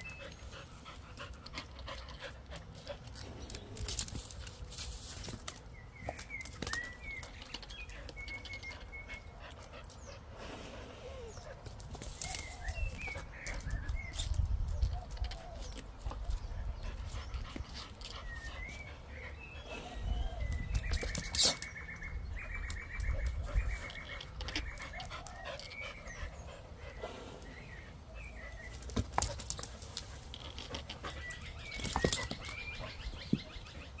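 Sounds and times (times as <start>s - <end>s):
dog paws and jaws clicking: 0.0s - 10.1s, 11.4s - 18.9s, 20.4s - 26.4s, 28.6s - 34.0s
small birds chirping: 0.0s - 34.0s.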